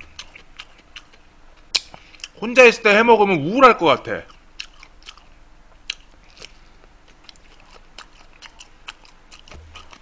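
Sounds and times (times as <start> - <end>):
person chewing with mouth clicks: 0.0 - 2.4, 4.2 - 10.0.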